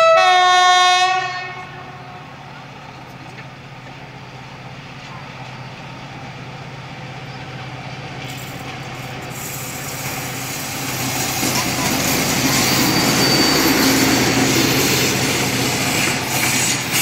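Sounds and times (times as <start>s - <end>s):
train engine hum: 0.0s - 17.0s
wheel and rail hissing: 2.2s - 17.0s.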